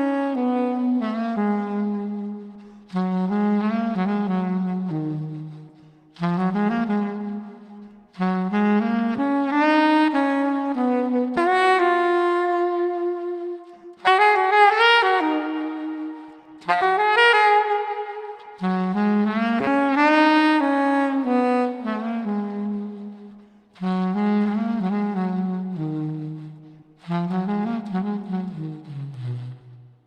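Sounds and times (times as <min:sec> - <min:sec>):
saxophone melody: 0:00.0 - 0:30.0.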